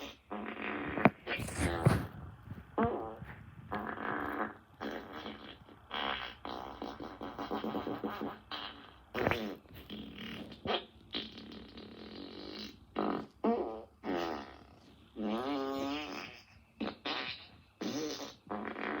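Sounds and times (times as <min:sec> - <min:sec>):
fart sounds: 0:00.0 - 0:19.0.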